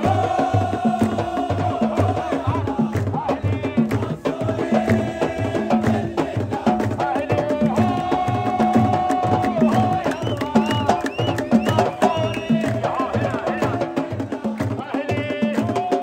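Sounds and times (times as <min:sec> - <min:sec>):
drums beating steady rhythm: 0:00.0 - 0:16.0.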